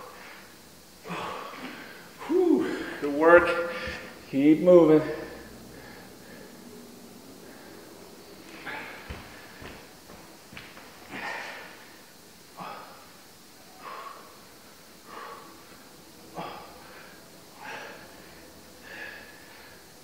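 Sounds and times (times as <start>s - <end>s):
man breathing hard: 0.0s - 4.2s, 5.0s - 9.8s, 11.0s - 20.0s.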